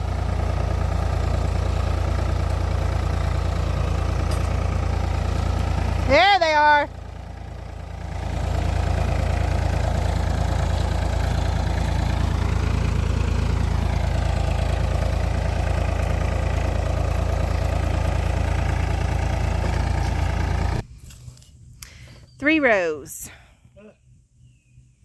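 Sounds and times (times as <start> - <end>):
tractor engine rumbling: 0.0 - 24.4.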